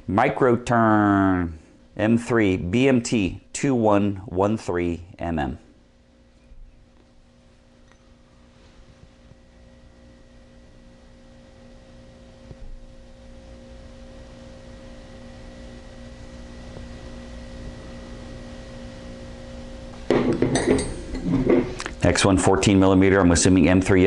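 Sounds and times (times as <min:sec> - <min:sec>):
electrical hum with held tones: 0:00.0 - 0:24.0.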